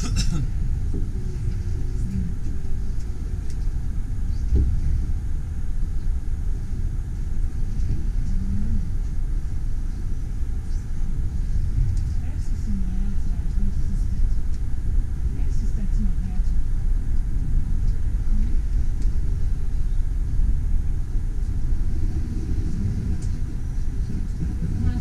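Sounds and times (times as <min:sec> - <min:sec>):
train carriage rumbling: 0:00.0 - 0:25.0.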